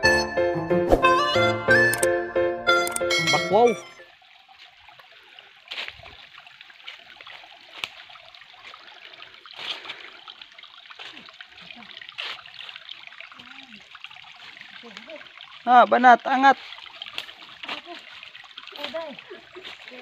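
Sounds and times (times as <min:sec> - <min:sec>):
water trickling over rocks: 0:02.9 - 0:20.0.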